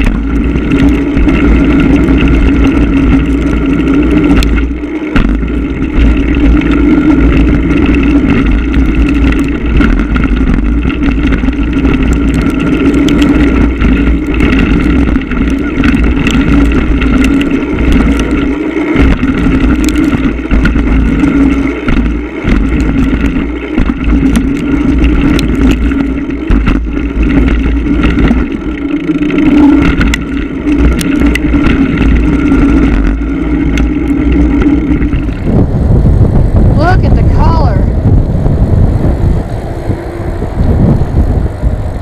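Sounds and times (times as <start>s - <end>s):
bike clicks and rattles: 0.0s - 35.5s
bike rolling drone: 0.0s - 42.0s
wind rumbling on microphone: 0.0s - 42.0s.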